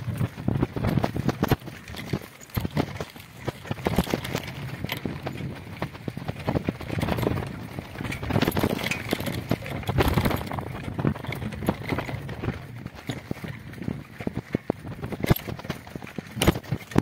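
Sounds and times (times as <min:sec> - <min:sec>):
bicycle frame rattling: 0:00.0 - 0:17.0
bicycle tyres on grit: 0:00.0 - 0:17.0.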